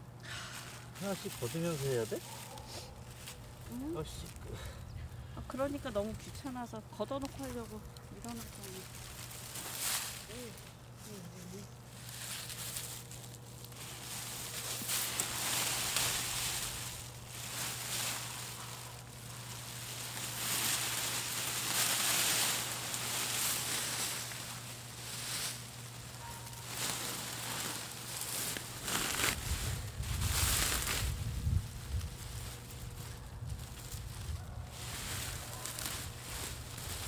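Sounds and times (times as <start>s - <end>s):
dry stalks crackling: 0.2s - 37.0s
plastic film crinkling: 0.8s - 4.5s, 5.6s - 37.0s.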